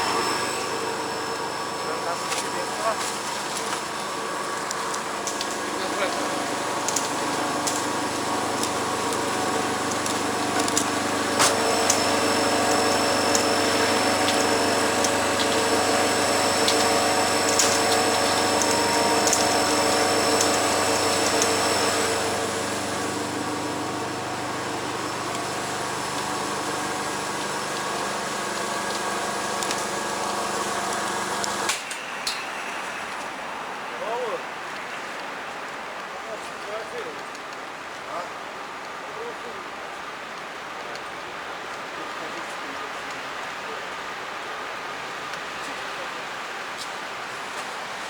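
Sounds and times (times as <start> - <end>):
machine hum with steady tones: 0.0 - 38.8.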